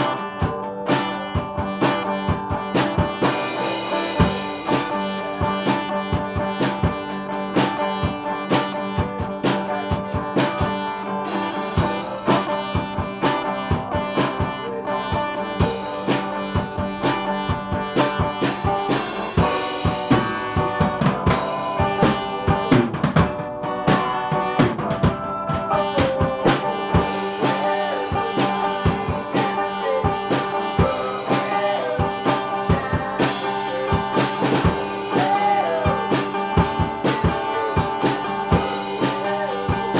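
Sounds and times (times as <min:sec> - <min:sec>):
drum beat: 0:00.0 - 0:39.9
sustained guitar notes: 0:00.0 - 0:39.9.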